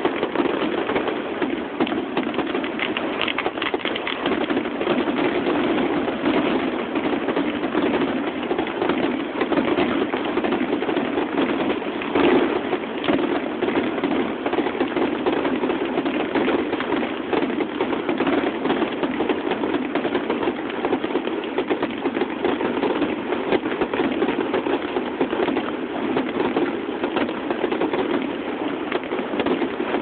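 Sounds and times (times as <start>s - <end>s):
fireworks crackling and popping: 0.0s - 30.0s.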